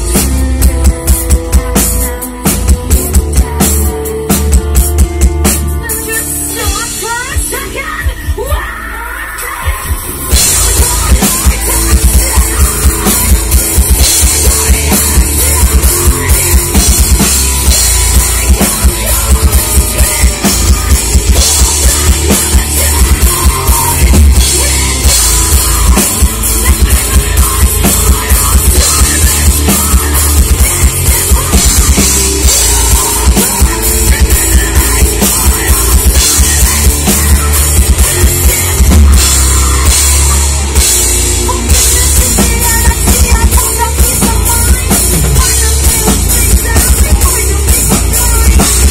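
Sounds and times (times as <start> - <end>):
heavy metal band playing: 0.0 - 48.9.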